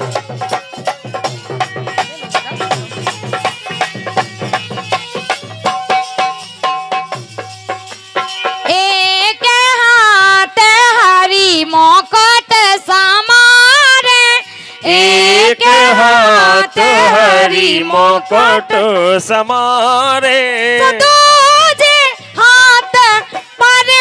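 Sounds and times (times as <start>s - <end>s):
steady percussion beat: 0.0s - 10.5s, 14.6s - 24.0s.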